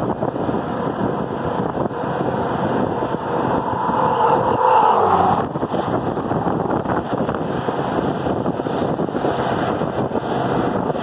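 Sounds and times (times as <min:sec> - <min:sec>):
rising whine: 0:00.0 - 0:08.9
diesel tractor running: 0:00.0 - 0:11.0
wind buffeting microphone: 0:00.0 - 0:11.0.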